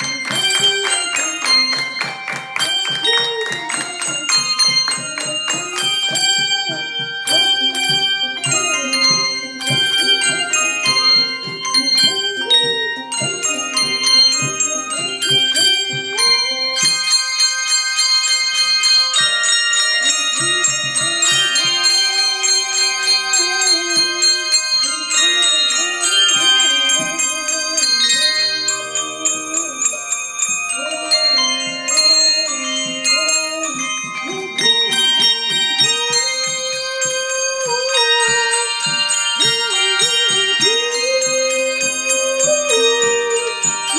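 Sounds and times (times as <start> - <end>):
handbell choir playing: 0.0 - 43.9.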